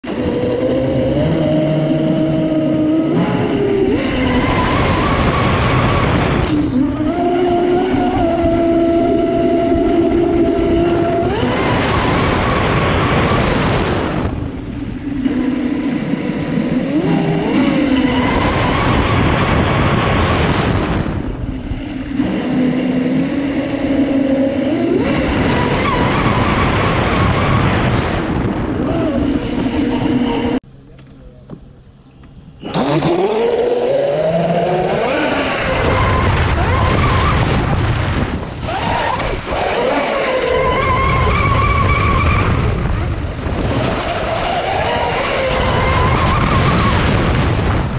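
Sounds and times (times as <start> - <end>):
electric motor whining: 0.0 - 30.6, 32.6 - 47.2
water rushing and wind noise: 0.1 - 30.6, 32.7 - 47.9.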